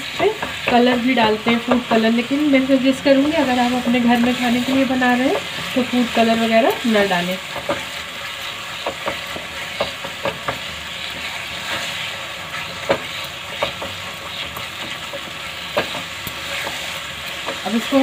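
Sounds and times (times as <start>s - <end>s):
food sizzling in a pan: 0.0s - 18.0s
spatula scraping and tapping pan: 0.0s - 18.0s.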